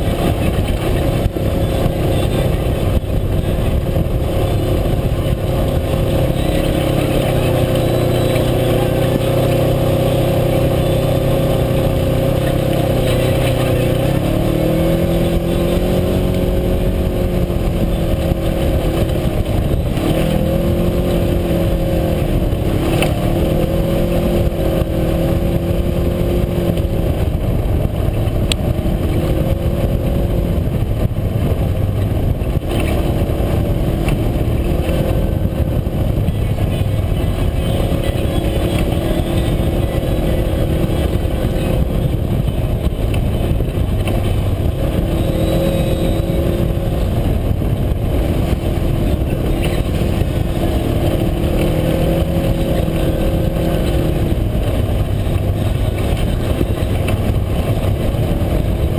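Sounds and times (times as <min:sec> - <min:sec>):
utility vehicle engine running: 0:00.0 - 0:58.9.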